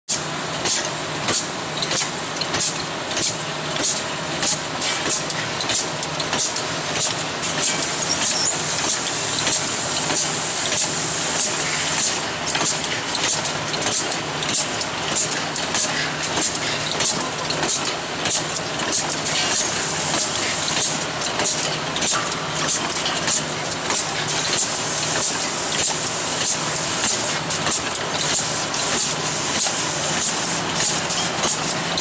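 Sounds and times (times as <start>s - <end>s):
capping machine hiss and hum: 0.1s - 32.0s
sharp clicks and knocks: 0.6s - 10.9s, 12.0s - 32.0s.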